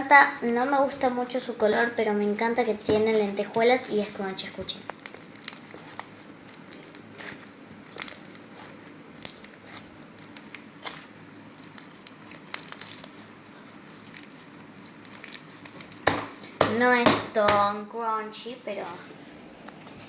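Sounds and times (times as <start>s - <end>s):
crunchy slime crackling: 0.0s - 17.8s.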